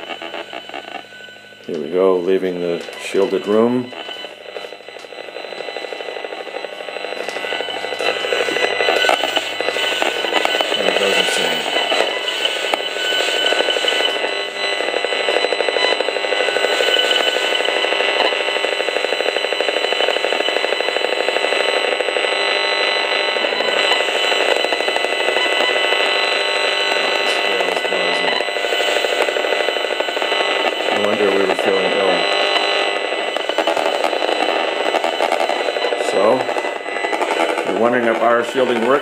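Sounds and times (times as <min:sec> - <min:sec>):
dense electronic buzz from speaker: 0:00.0 - 0:39.0.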